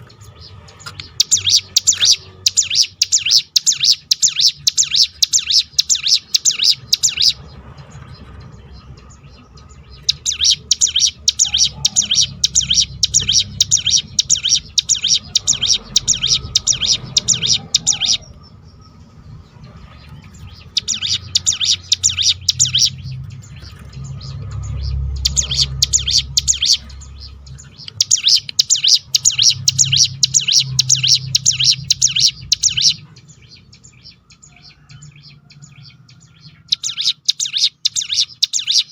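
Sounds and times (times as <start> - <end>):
bird singing fast high trills: 1.0 - 7.6, 9.4 - 19.0, 20.0 - 38.9.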